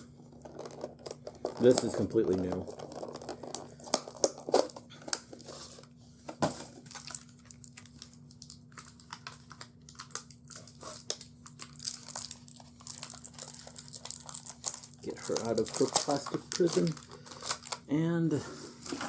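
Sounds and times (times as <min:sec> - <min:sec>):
faint steady hum: 0:00.0 - 0:19.0
plastic packaging crinkling: 0:00.3 - 0:05.9, 0:06.6 - 0:17.9.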